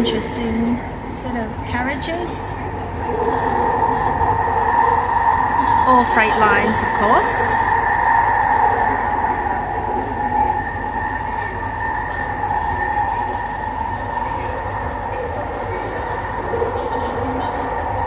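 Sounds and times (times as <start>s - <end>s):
two-pitched train whine: 0.0s - 18.0s.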